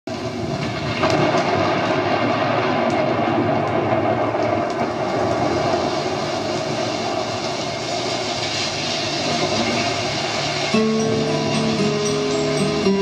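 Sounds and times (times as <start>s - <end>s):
rain hiss from vinyl record: 0.1s - 13.0s.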